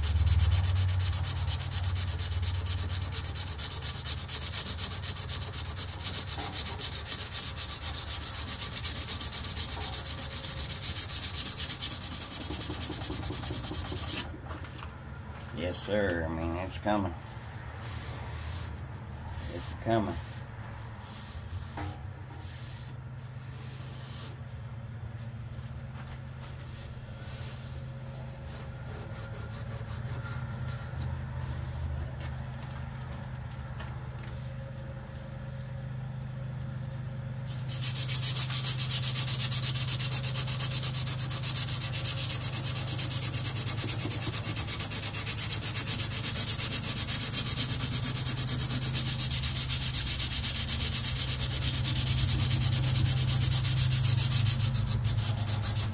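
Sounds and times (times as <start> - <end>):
sandpaper rubbing on steel blade: 0.0 - 14.4, 17.8 - 24.6, 26.7 - 31.9, 37.5 - 55.9.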